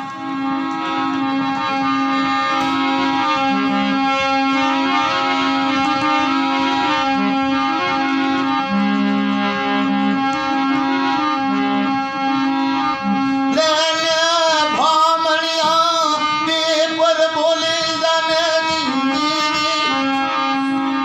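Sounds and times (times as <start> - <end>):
keyboard melody in held notes: 0.0 - 21.0.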